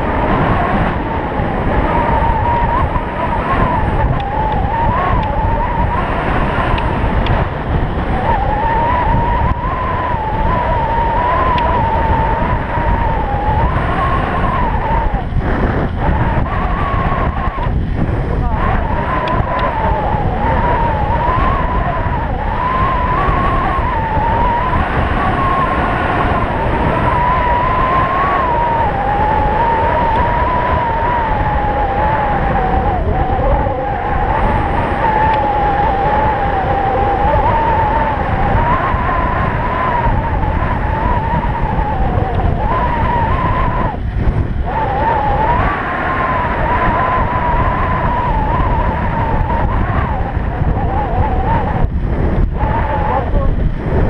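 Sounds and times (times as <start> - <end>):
electric bike motor whine: 0.0 - 54.0
wind rushing on microphone: 0.0 - 54.0.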